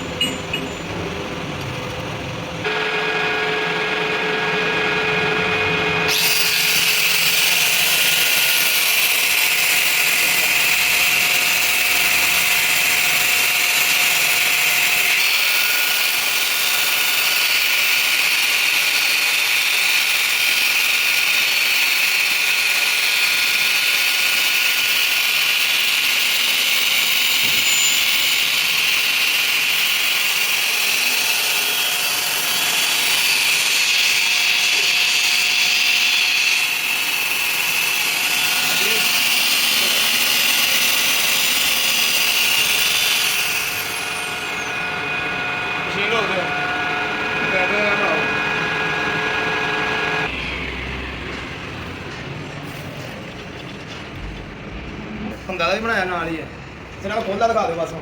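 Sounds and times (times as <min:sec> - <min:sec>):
power tool motor whine: 0:00.0 - 0:51.8.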